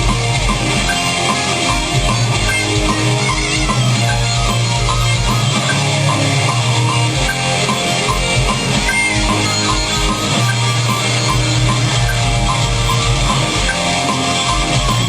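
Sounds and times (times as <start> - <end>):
drum kit beat: 0.0 - 15.0
electric guitar: 0.0 - 15.0.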